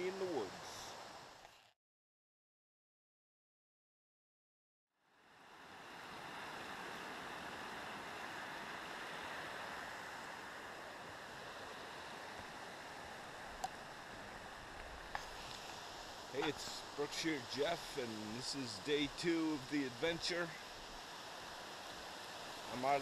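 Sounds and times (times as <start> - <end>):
mountain stream rushing: 0.0 - 1.4, 5.3 - 23.0.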